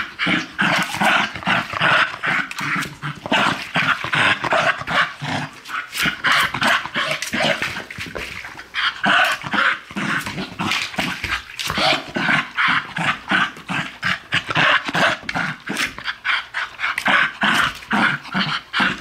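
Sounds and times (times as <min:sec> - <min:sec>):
dog growling in play: 0:00.0 - 0:19.0.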